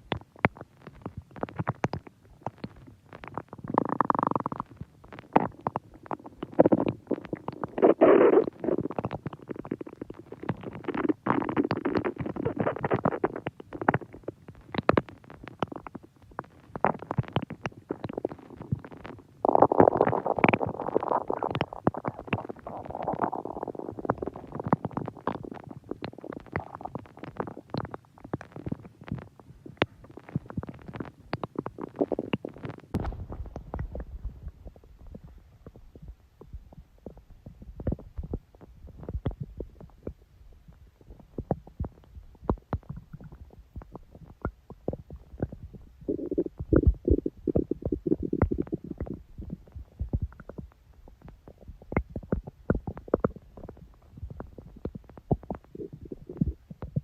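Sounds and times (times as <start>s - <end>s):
stomach growling and gurgling: 0.0s - 57.0s.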